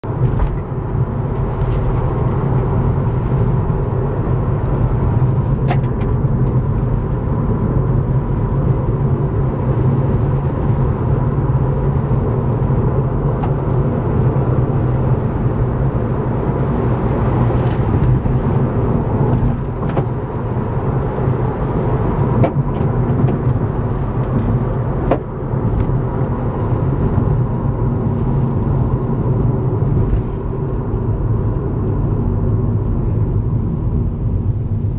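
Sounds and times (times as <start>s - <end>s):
engine and tyre rumble on wet road: 0.0s - 34.9s.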